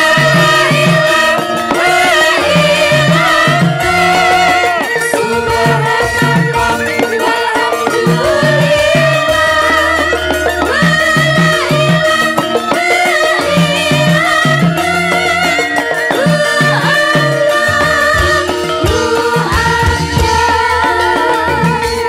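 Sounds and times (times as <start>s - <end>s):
gamelan music: 0.0s - 22.0s
women singing: 0.0s - 22.0s.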